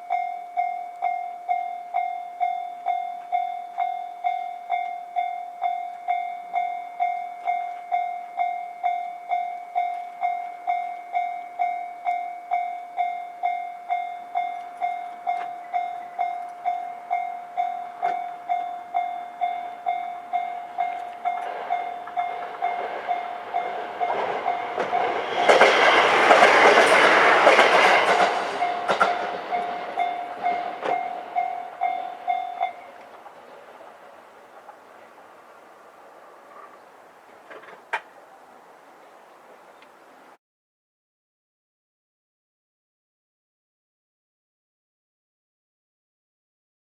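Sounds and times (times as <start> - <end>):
diesel railcar passing: 0.0 - 40.4
level crossing warning bell: 0.0 - 40.4.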